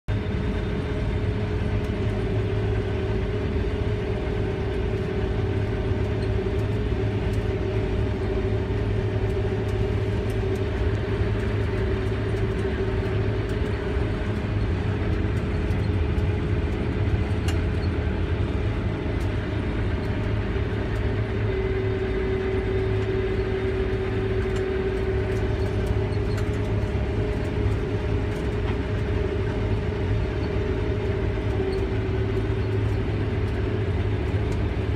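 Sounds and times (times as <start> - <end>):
combine harvester droning: 0.1 - 34.9.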